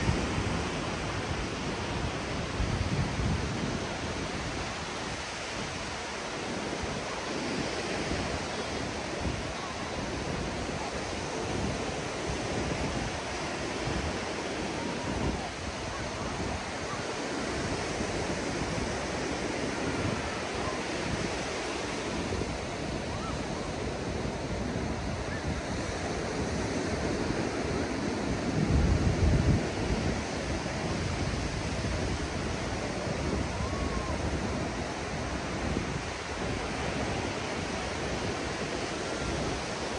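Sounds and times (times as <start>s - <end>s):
surf breaking on beach: 0.0s - 39.9s
wind buffeting microphone: 0.0s - 39.9s.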